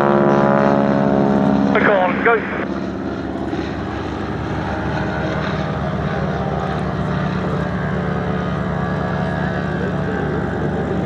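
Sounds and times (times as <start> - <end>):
biplane engine droning: 0.0 - 11.0.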